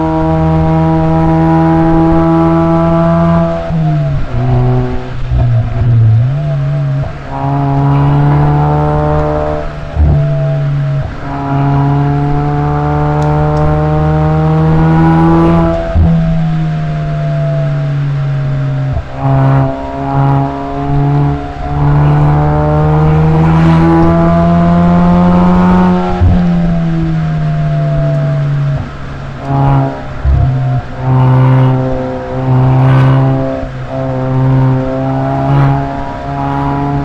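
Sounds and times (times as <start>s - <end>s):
car exhaust drone: 0.0s - 37.0s.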